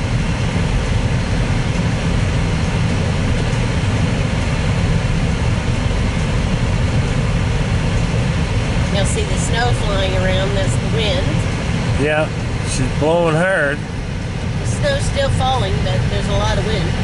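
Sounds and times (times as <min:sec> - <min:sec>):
car cabin road rumble: 0:00.0 - 0:17.0
road hiss: 0:00.0 - 0:17.0.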